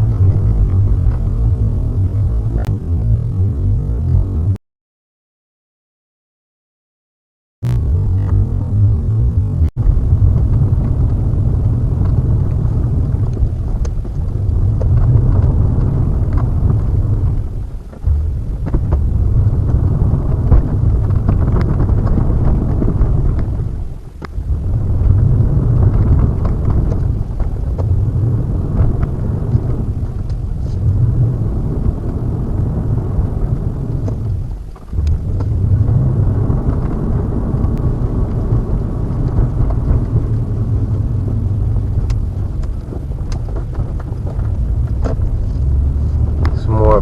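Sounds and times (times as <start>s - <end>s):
car driving road and engine noise: 0.0s - 4.6s, 7.7s - 47.0s.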